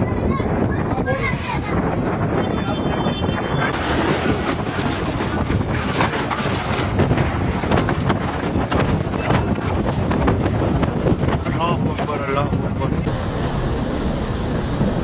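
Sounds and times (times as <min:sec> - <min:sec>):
storm wind blasting microphone: 0:00.0 - 0:15.0.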